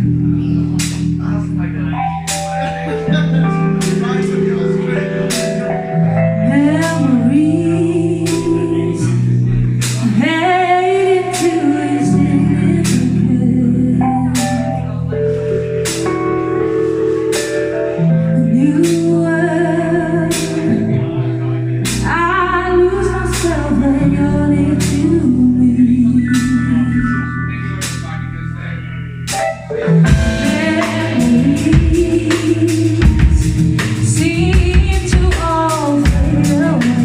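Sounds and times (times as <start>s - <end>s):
drums: 0.0s - 37.0s
live band playing: 0.0s - 37.0s
person singing: 1.9s - 16.4s, 17.3s - 27.9s, 29.7s - 37.0s.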